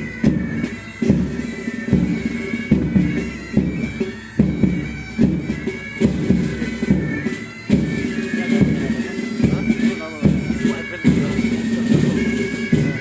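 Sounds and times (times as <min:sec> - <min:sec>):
bagpipes playing melody: 0:00.0 - 0:13.0
drum beat: 0:00.0 - 0:13.0.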